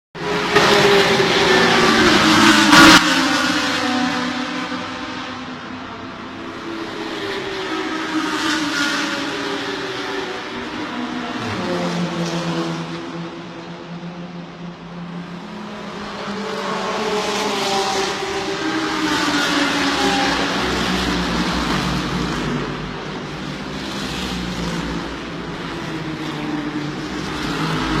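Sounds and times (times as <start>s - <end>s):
racing cars passing at high revs: 0.2s - 28.0s.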